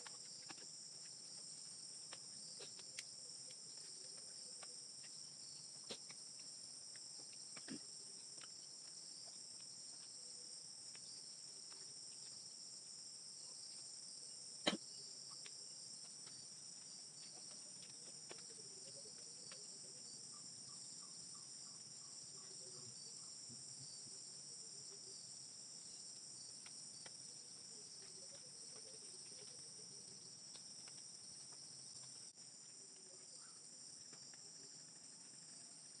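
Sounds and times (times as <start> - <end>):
crickets and night insects trilling: 0.0 - 36.0.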